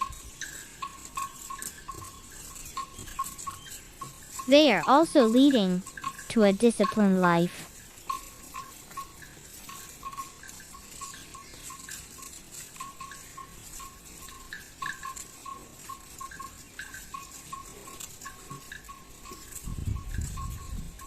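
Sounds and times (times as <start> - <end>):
hooves pattering: 0.0 - 21.0.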